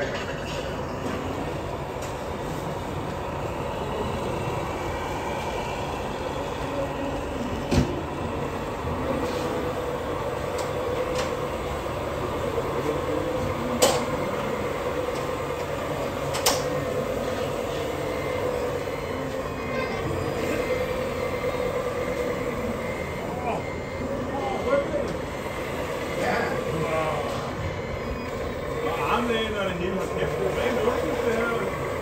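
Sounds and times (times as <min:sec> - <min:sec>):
hydraulic pump whining: 0:00.0 - 0:32.0.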